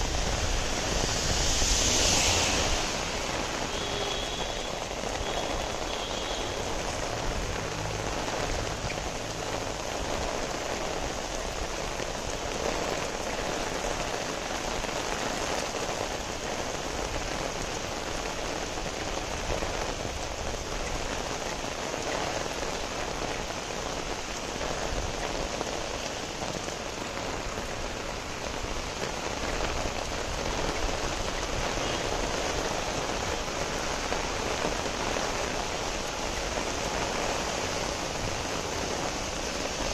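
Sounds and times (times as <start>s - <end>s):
rain on wet pavement: 0.0s - 39.9s.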